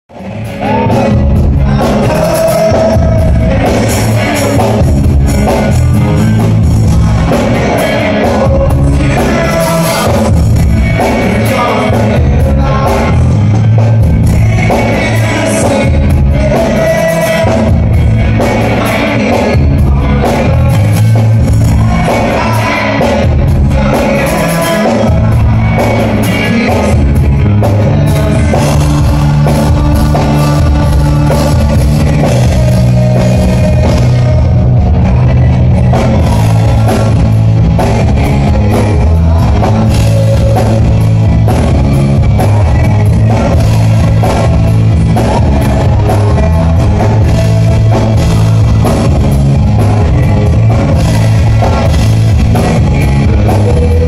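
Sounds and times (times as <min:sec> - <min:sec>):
live rock band playing: 0:00.1 - 0:54.0.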